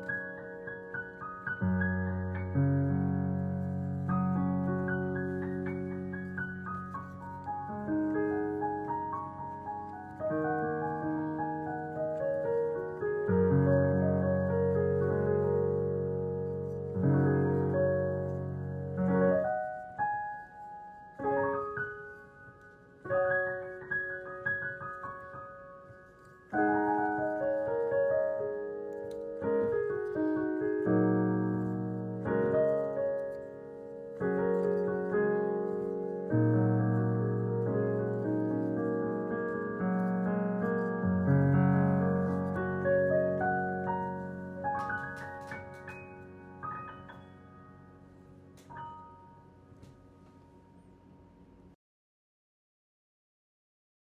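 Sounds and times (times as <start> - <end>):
slow piano music: 0.0 - 51.8.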